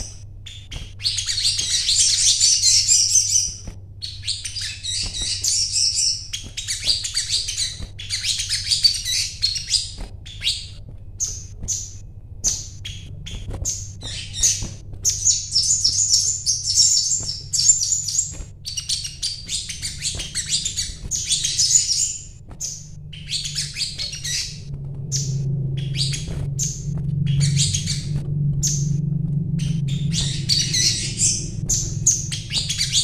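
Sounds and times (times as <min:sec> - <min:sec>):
bird chirping and twittering: 0:00.0 - 0:33.0
low steady hum: 0:00.0 - 0:33.0.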